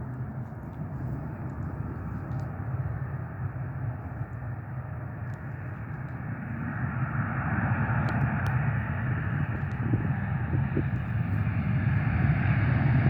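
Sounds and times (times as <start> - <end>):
airliner engines running: 0.0 - 13.0.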